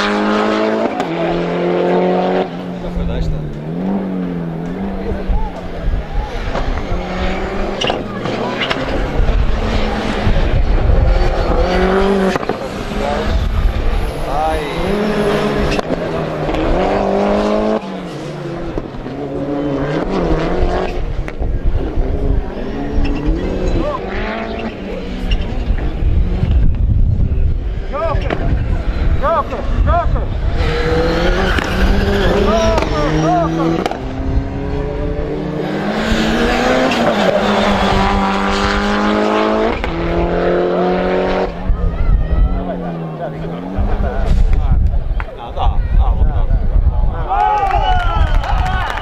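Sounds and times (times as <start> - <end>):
race car engine accelerating: 0.0 - 41.8, 42.4 - 45.2.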